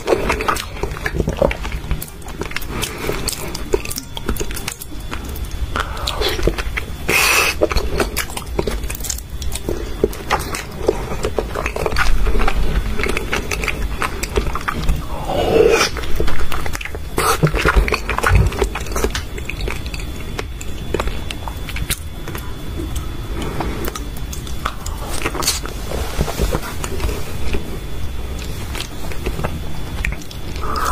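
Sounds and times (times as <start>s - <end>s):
wet chewing and lip smacking: 0.0s - 30.9s.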